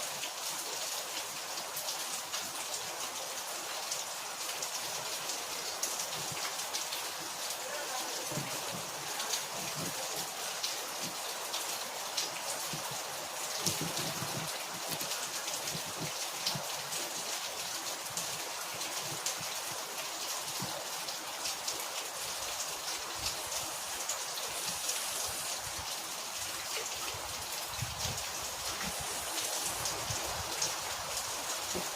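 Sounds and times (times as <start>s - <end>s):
steady rain falling: 0.0s - 31.9s
raindrops ticking: 5.6s - 31.9s.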